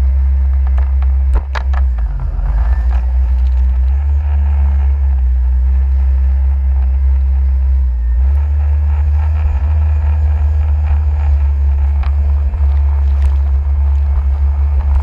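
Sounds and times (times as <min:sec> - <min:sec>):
jet ski engine rumble: 0:00.0 - 0:15.0.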